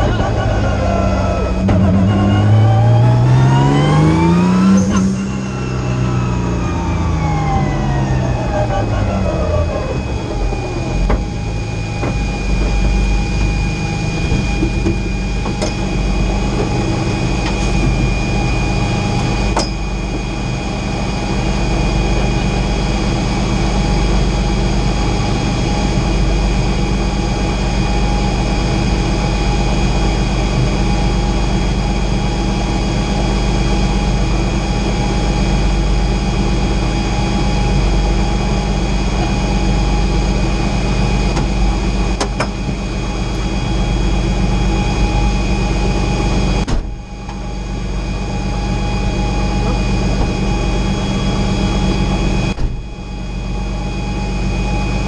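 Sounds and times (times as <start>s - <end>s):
car engine idling: 0.0s - 54.8s
high whine: 0.0s - 55.0s.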